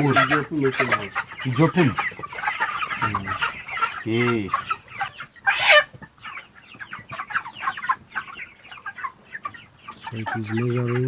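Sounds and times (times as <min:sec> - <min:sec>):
chickens clucking and cheeping: 0:00.0 - 0:11.0.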